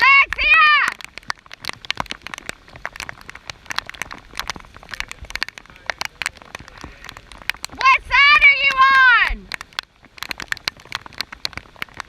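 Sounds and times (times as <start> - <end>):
faint rain hiss: 0.0 - 12.0
raindrops ticking close by: 0.0 - 12.0.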